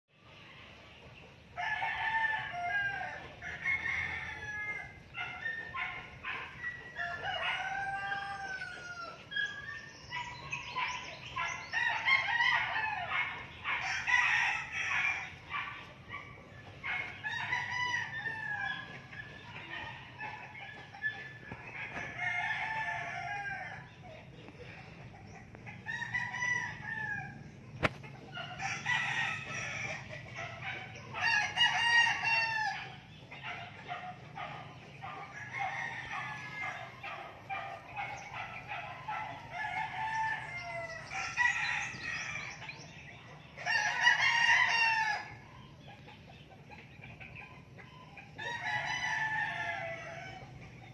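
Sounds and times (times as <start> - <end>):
chickens clucking and crowing: 0.1 - 50.9.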